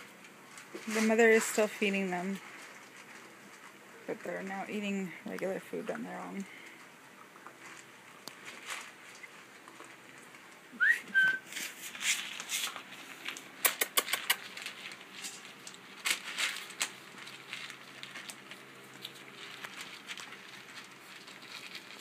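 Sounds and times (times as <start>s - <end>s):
puppies eating from a bowl: 0.0s - 11.5s, 12.2s - 22.0s.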